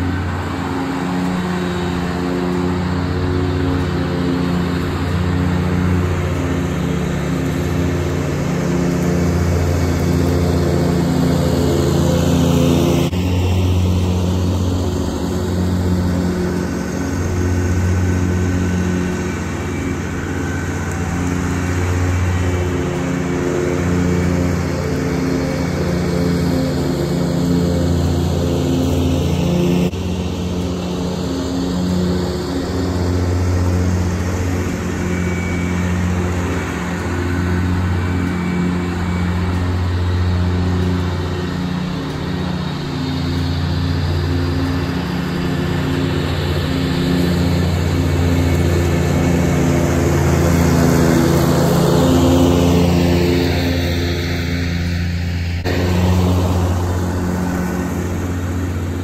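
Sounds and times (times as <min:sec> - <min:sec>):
diesel mower engine running: 0:00.0 - 0:59.0.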